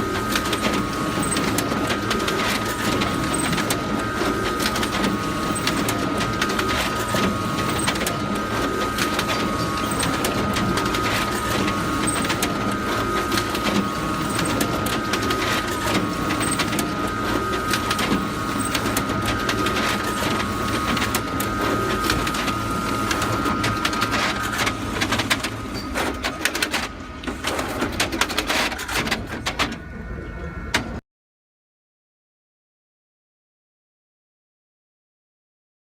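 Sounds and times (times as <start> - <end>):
photocopier high whine: 0.0 - 31.0
photocopier clicking and rattling: 0.6 - 29.8.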